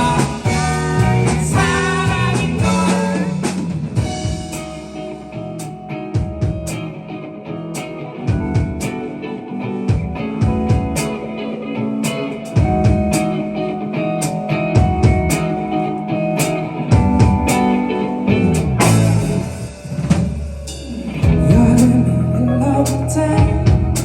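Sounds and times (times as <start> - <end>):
drum kit beat: 0.0 - 7.1, 7.7 - 9.2, 9.8 - 22.2, 22.9 - 24.0
bass guitar: 0.0 - 24.0
guitars: 0.0 - 24.0.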